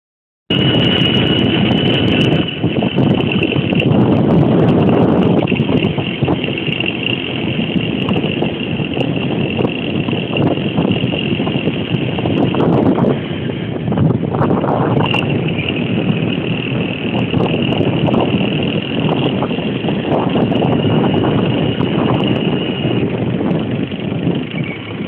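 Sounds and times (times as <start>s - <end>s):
motorbike engine running: 0.5s - 25.0s
wind rushing over microphone: 0.5s - 25.0s.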